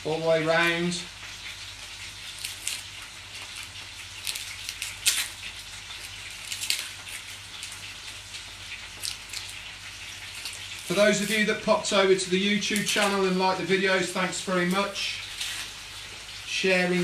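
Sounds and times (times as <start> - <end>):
meat sizzling in a frying pan: 0.0 - 17.0
sharp crackles: 1.4 - 13.3, 14.6 - 16.4.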